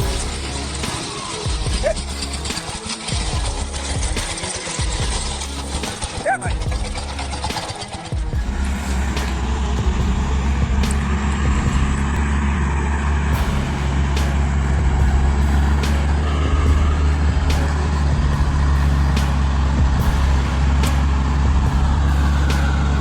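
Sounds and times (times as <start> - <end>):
truck diesel engine drone: 0.0 - 23.0.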